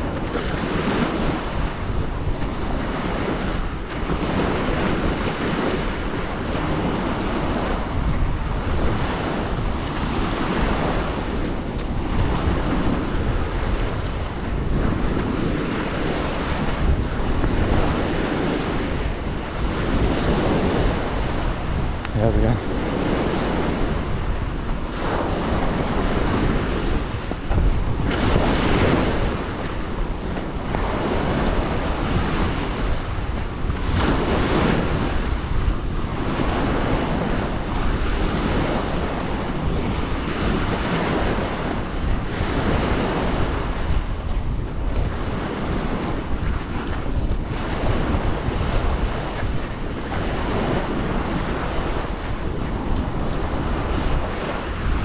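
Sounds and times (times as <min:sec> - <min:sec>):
small waves breaking on sand: 0:00.0 - 0:55.0
wind buffeting microphone: 0:00.0 - 0:55.0.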